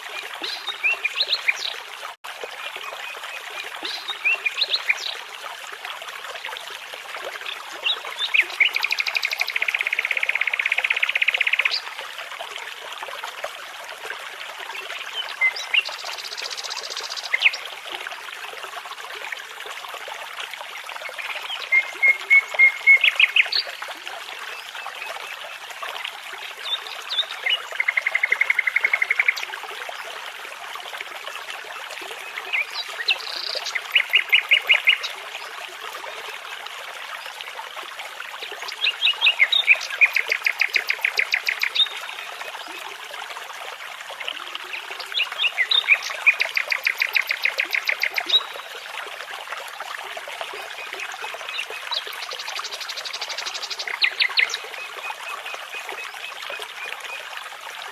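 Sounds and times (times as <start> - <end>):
brook babbling: 0.0 - 57.9.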